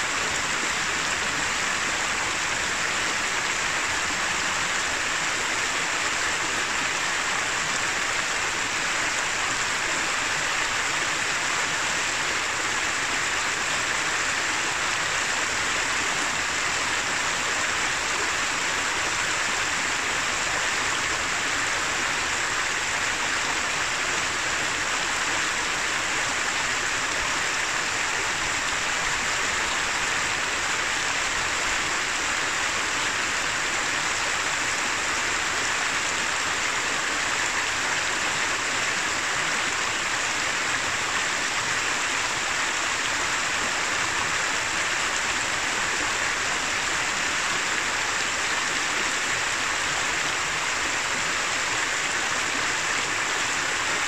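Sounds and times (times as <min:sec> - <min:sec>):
river running over rocks: 0:00.0 - 0:54.0.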